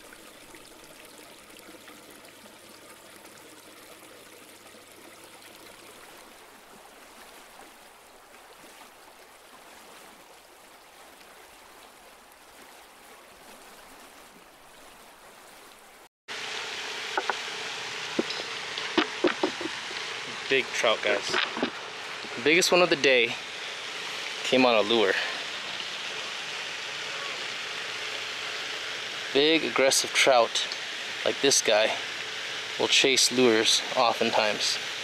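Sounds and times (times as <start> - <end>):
fountain water splashing: 0.0 - 35.0.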